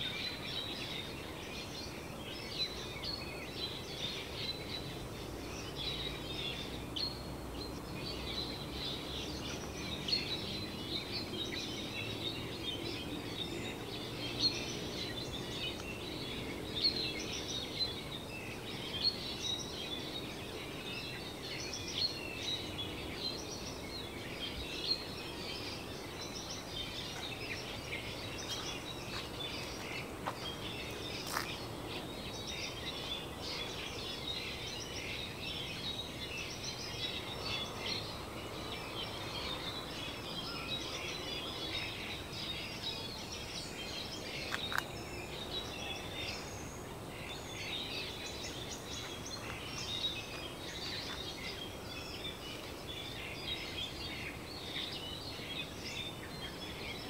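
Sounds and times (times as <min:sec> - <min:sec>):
low rush of wind: 0:00.0 - 0:57.0
small birds chirping: 0:00.0 - 0:57.0.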